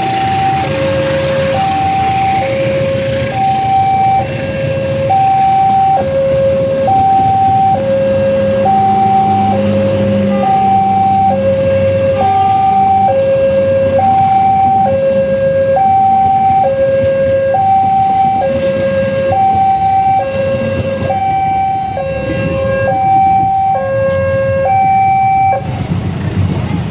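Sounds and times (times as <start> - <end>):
level crossing two-tone alarm: 0.0 - 25.6
steady background noise: 0.0 - 26.9.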